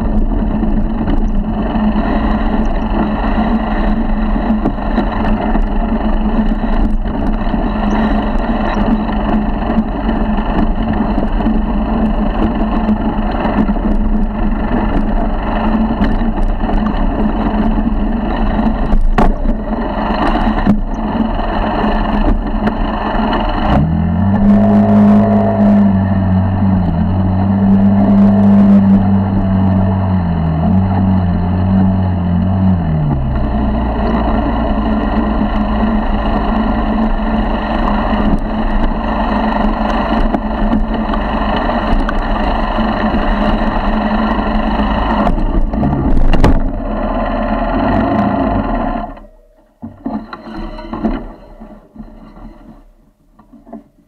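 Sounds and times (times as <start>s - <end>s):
motorized bicycle engine: 0.0s - 53.0s.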